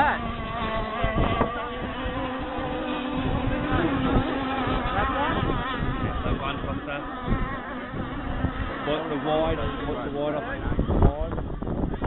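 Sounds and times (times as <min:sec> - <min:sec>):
model boat engines buzzing: 0:00.0 - 0:12.0.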